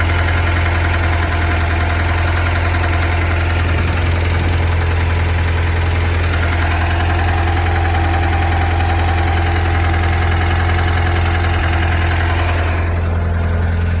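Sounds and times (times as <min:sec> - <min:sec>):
engine idling with rapid knock: 0:00.0 - 0:14.0.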